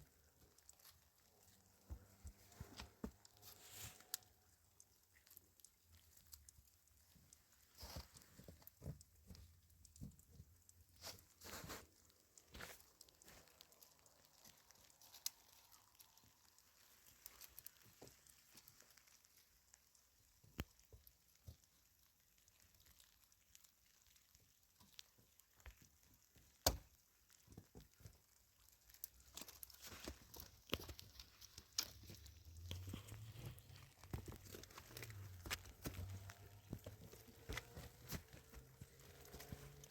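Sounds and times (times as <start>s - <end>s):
small clicks and knocks: 0.0s - 39.9s.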